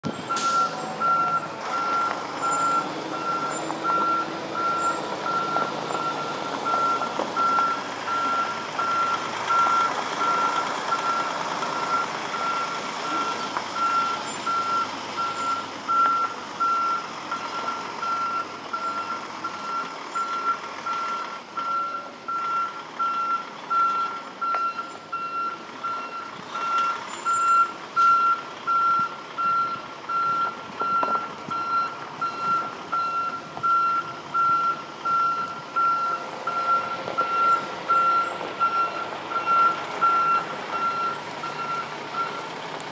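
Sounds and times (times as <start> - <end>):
truck backup alarm beeping: 0.0 - 42.5
truck engine running: 0.0 - 42.9.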